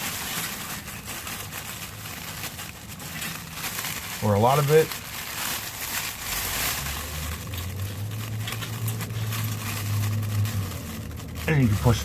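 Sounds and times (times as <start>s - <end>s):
garage door sheet rustling: 0.0s - 12.0s.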